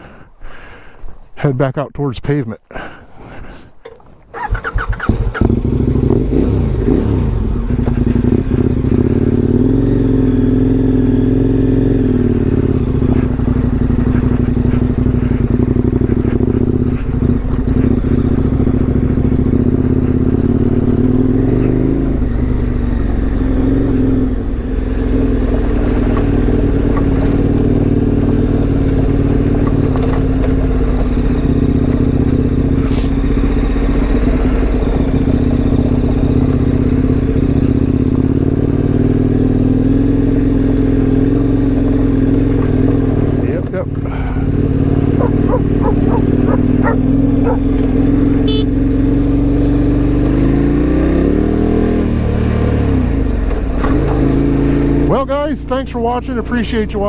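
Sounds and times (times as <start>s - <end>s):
motorcycle engine revving: 4.3s - 57.0s.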